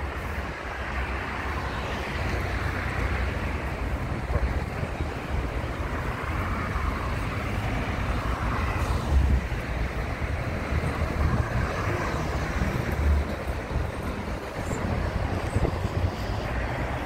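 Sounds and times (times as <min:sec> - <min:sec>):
road traffic passing: 0:00.0 - 0:17.0
wind rumbling on microphone: 0:00.0 - 0:17.0.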